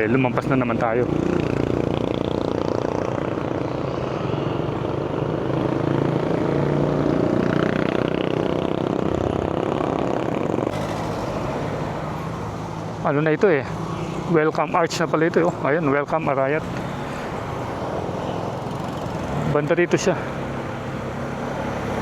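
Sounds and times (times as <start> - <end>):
road and wind noise: 0.0 - 22.0.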